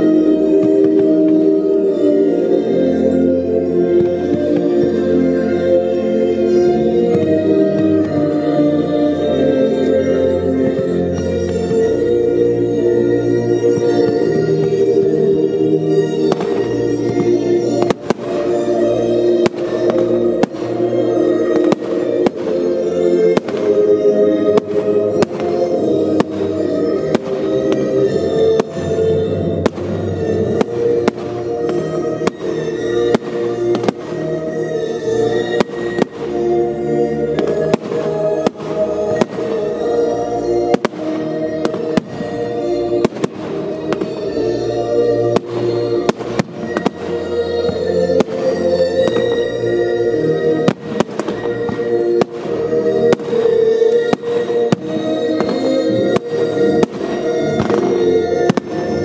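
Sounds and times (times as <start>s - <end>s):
fireworks bursting with sharp bangs: 0.0s - 2.0s, 3.8s - 15.2s, 15.8s - 59.0s
music playing: 0.0s - 59.0s.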